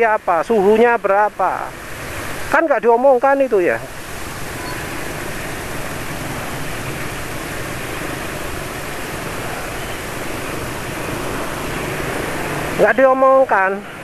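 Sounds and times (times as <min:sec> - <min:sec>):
scooter engine and traffic rush: 0:00.0 - 0:14.0.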